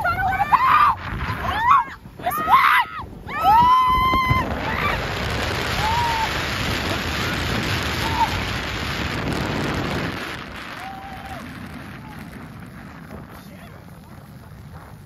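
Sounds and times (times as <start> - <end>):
snow tube sliding over snow: 0.0 - 15.0
wind on microphone: 0.0 - 15.0.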